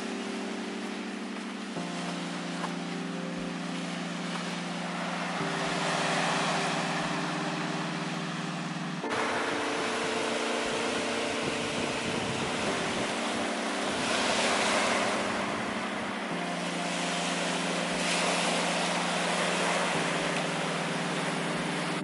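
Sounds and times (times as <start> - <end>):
surf breaking on a beach: 0.0 - 22.0.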